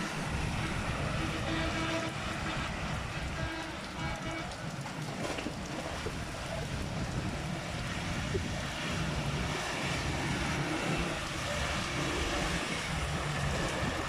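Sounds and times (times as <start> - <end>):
rain falling: 0.0 - 14.0
road vehicles running: 0.0 - 14.0.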